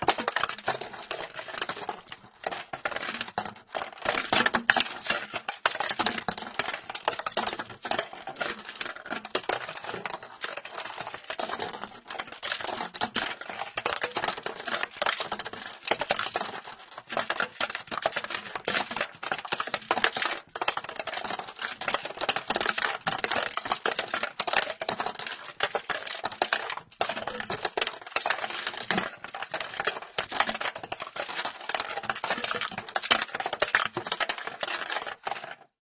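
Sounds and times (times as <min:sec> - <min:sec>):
ball rattling in plastic box: 0:00.0 - 0:35.8.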